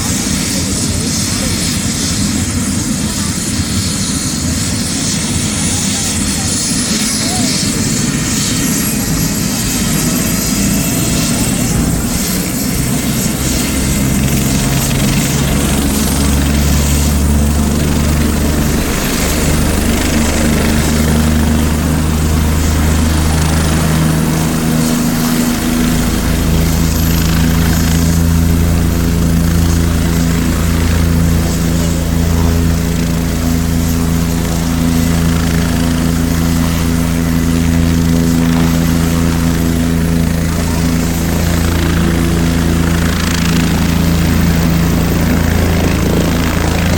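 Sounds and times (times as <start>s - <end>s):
helicopter engine and rotor: 0.0s - 46.9s.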